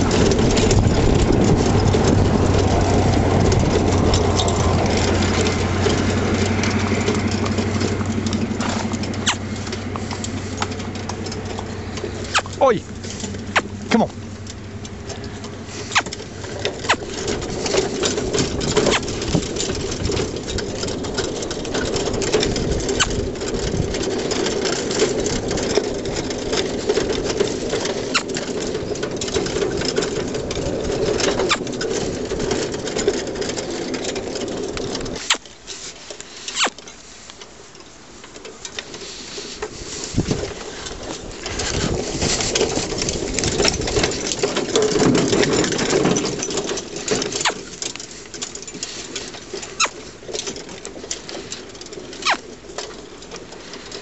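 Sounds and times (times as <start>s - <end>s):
cart rattling and clattering: 0.0s - 54.0s.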